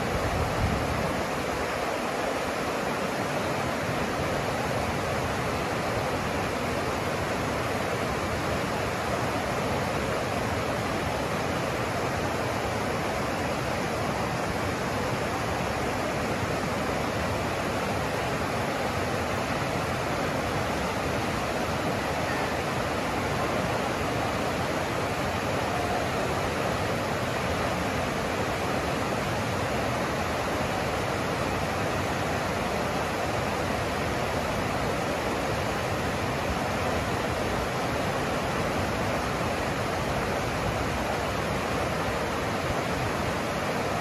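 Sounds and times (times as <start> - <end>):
river rushing over rocks: 0.0 - 44.0.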